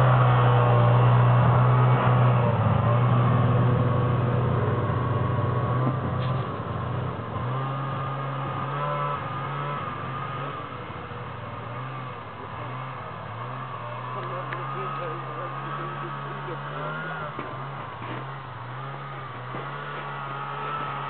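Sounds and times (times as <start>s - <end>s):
snowmobile engine driving away: 0.0s - 21.0s.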